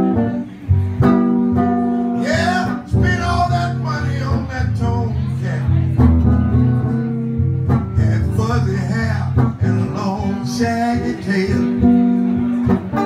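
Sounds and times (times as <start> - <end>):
blues electric guitar: 0.0 - 13.0.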